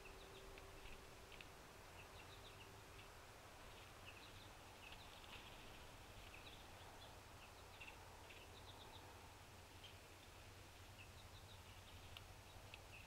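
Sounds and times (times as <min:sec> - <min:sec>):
small birds chipping: 0:00.0 - 0:13.0.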